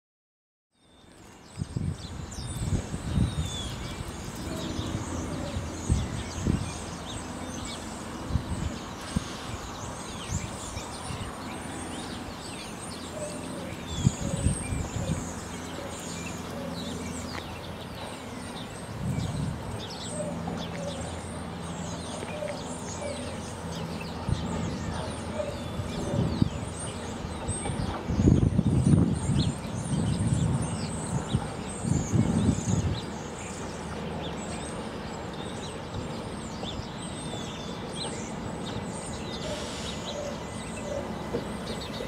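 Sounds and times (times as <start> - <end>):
small birds chirping: 0.8 - 42.0.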